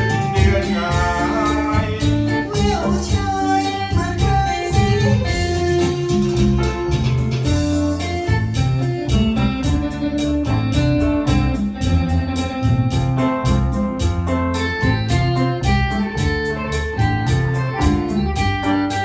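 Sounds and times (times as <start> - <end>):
organ-like electronic keyboard melody: 0.0 - 19.0
steady drum beat: 0.0 - 19.0.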